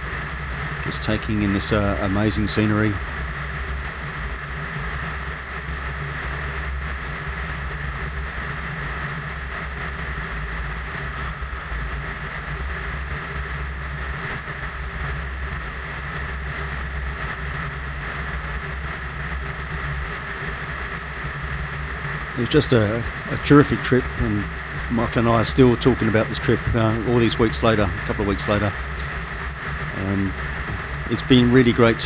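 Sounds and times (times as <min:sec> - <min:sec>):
piston engine and propeller drone: 0:00.0 - 0:32.0.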